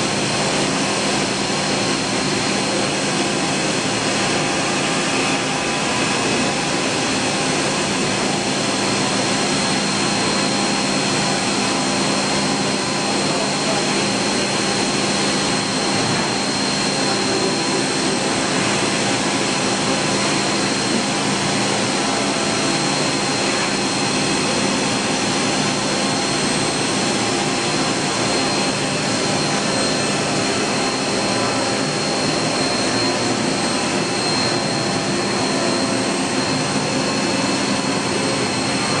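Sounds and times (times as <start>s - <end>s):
machine whirring with high whine: 0.0s - 39.0s.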